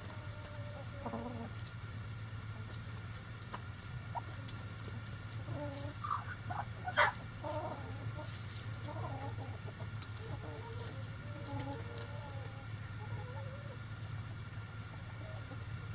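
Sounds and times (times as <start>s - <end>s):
hens clucking softly: 0.0s - 15.9s.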